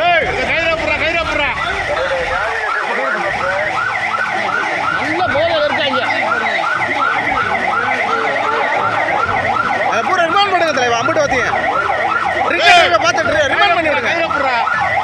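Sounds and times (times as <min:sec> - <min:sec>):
emergency siren yelping: 0:00.0 - 0:15.0.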